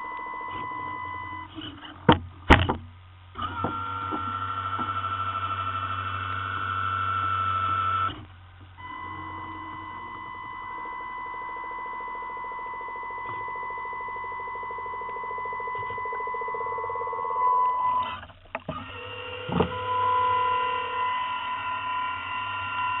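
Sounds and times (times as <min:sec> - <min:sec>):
high electric motor whine: 0:00.0 - 0:01.7, 0:03.4 - 0:08.2, 0:08.8 - 0:23.0.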